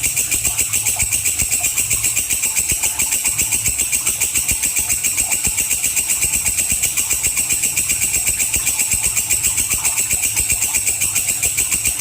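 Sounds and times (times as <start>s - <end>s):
insect pulsing buzz: 0.0s - 12.0s.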